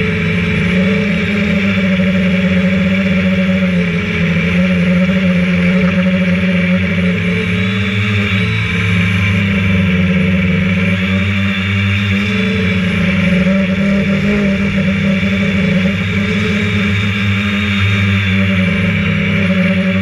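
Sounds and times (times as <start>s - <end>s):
drone propellers buzzing: 0.0s - 20.0s.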